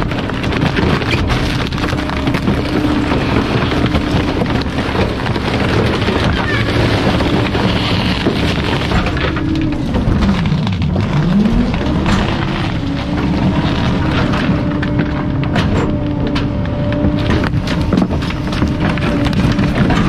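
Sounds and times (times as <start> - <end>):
garbage truck engine running: 0.0 - 20.0
heavy rumbling noise: 0.0 - 20.0.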